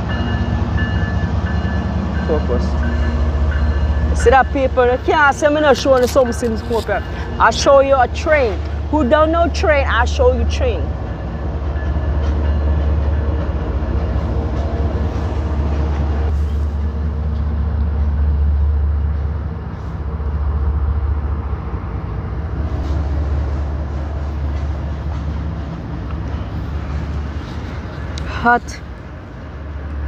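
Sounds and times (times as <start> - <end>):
freight train passing: 0.0 - 30.0.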